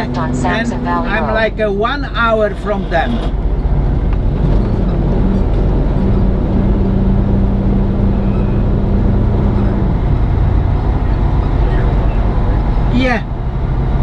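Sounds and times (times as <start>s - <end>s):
diesel truck engine drone: 0.0s - 14.0s
held hum: 0.0s - 14.0s.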